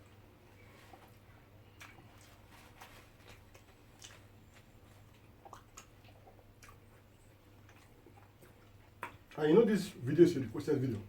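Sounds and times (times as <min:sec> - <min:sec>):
low steady hum: 0:00.0 - 0:11.0
soft eating mouth noises: 0:00.0 - 0:11.0.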